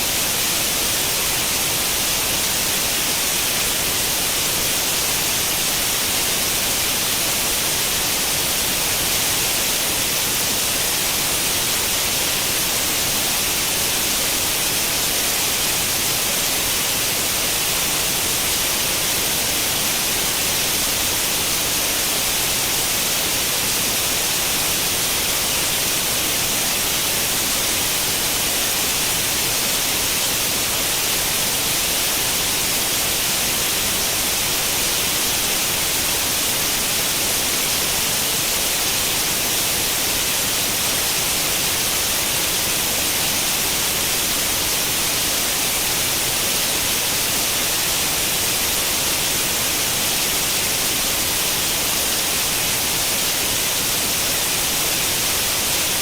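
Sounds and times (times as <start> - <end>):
television static hiss: 0.0 - 56.0.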